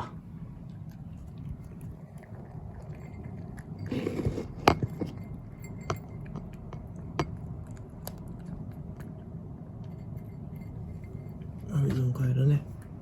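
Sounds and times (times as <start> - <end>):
animal eating: 0.0 - 11.7.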